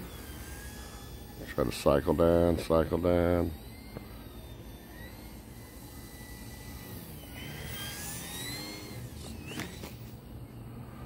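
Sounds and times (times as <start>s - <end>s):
electric model plane motor whine: 0.0s - 11.0s
low background hum: 0.0s - 11.0s.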